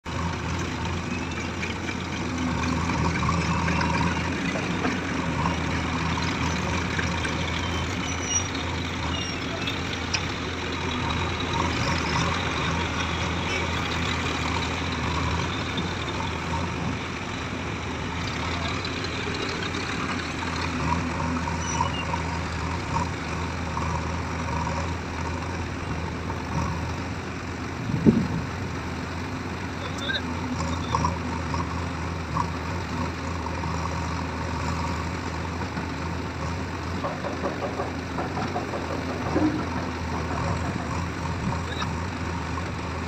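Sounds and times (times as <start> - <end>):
diesel engines droning: 0.0 - 43.0.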